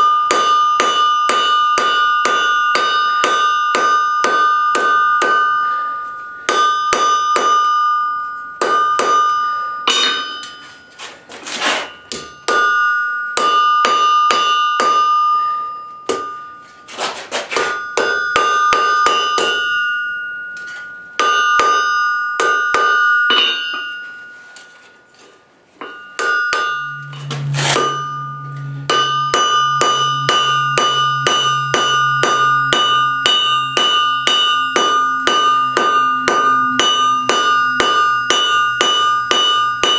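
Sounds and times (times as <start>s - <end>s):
hammer striking steel on anvil: 0.0s - 39.9s.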